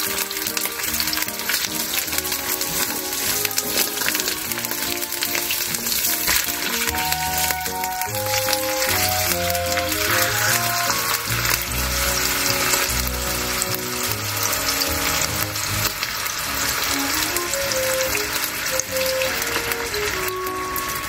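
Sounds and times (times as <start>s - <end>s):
background music: 0.0s - 21.0s
chicken sizzling in a frying pan: 0.0s - 21.0s.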